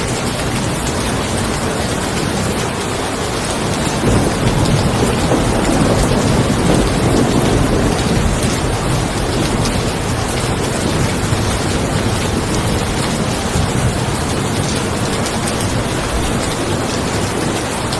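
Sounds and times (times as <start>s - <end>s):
rain falling on a car: 0.0s - 17.9s
thunder rumbling: 3.4s - 17.9s.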